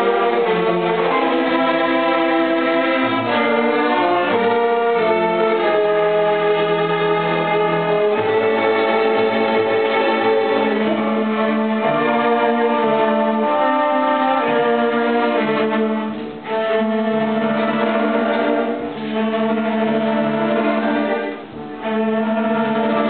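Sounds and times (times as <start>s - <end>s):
violins and cellos holding notes: 0.0s - 23.0s.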